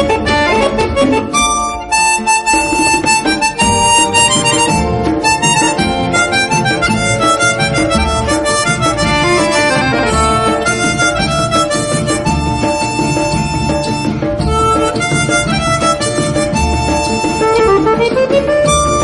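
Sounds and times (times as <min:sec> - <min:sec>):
phone ringtone music: 0:00.0 - 0:19.0.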